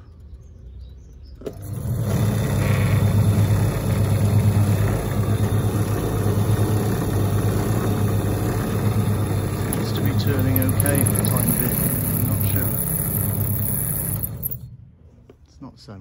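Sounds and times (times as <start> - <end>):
washing machine motor humming: 1.5 - 14.6.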